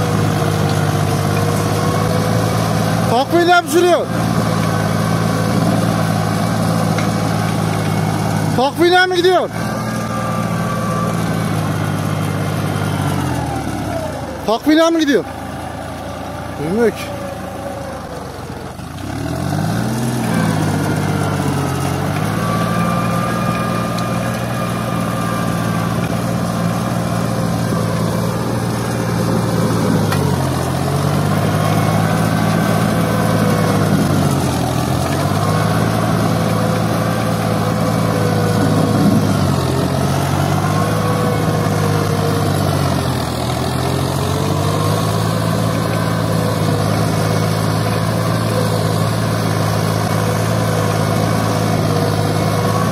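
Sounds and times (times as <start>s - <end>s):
tractor diesel engine labouring: 0.0s - 52.9s.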